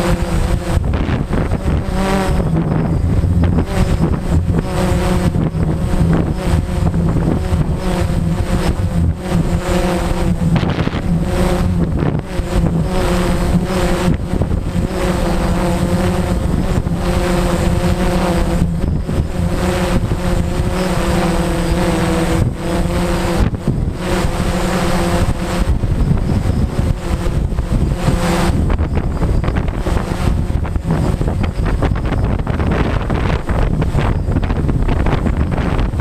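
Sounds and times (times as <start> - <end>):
quadcopter motors humming: 0.0 - 36.0
wind buffeting microphone: 0.0 - 36.0.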